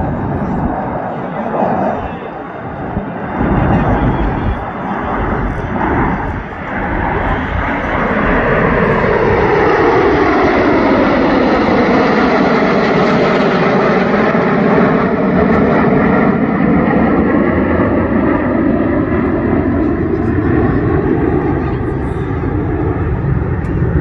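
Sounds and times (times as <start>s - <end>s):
fighter jets flying overhead: 0.0s - 24.0s.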